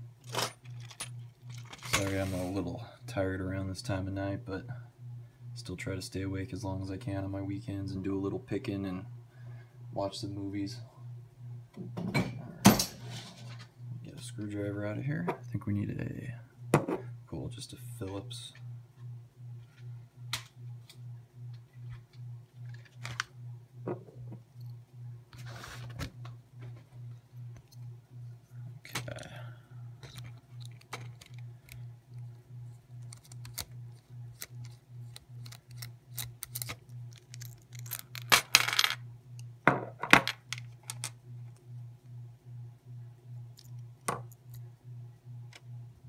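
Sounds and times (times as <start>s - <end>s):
pulsing low hum: 0.0s - 38.3s.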